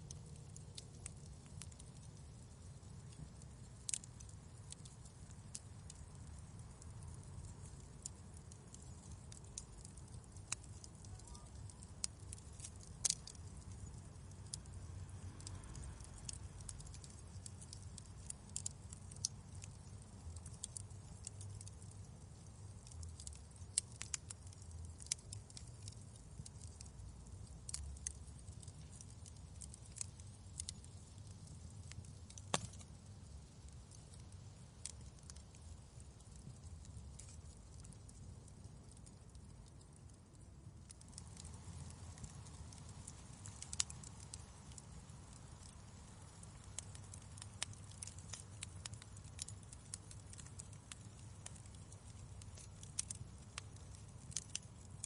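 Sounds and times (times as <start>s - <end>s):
low steady rumble: 0.0s - 49.8s
wood fire crackling: 0.0s - 55.0s.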